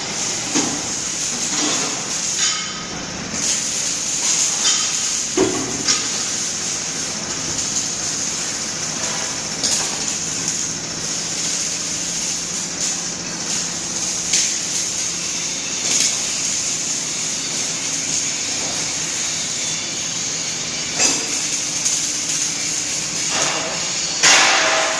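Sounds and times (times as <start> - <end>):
welding torch hissing: 0.0 - 24.9.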